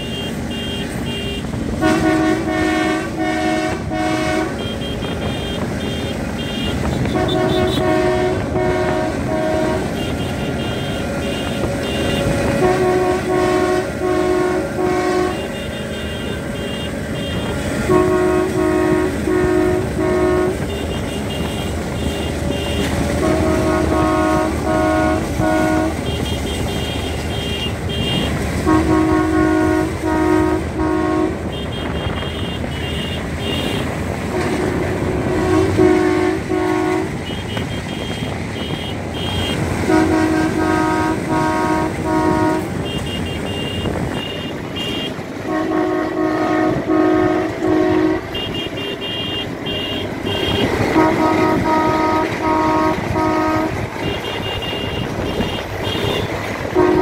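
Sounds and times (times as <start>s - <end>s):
diesel train rumbling past: 0.0s - 57.0s
horn-like toots tune: 1.4s - 57.0s.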